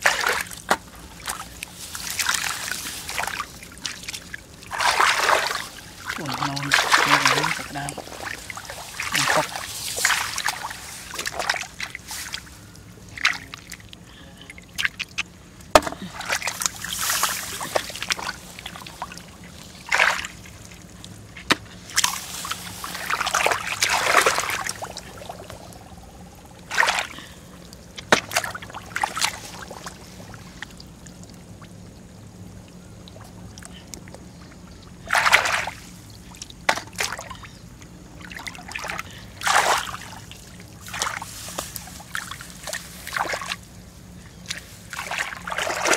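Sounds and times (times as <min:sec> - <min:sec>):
water splashing and sloshing: 0:00.0 - 0:45.9.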